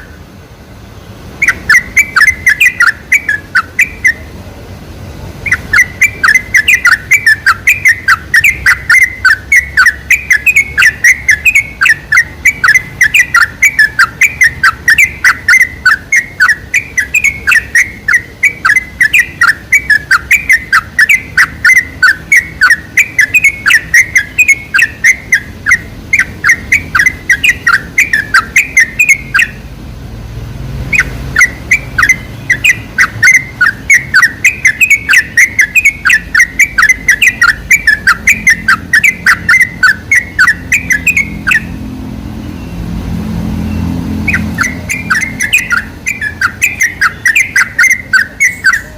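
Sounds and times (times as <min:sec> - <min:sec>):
bird chirping rapidly: 0:00.0 - 0:04.4, 0:05.1 - 0:48.9.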